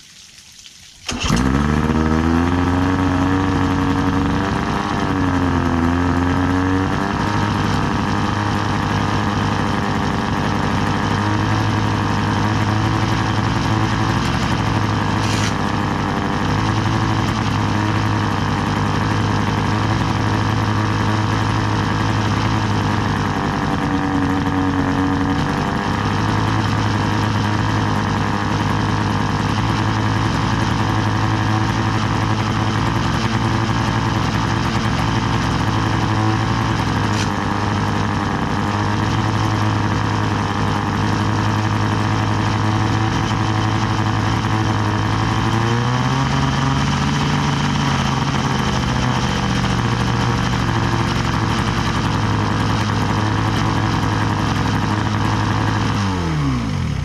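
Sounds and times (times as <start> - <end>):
engine shutting off: 1.0 - 57.0
outboard motor running: 1.0 - 57.0.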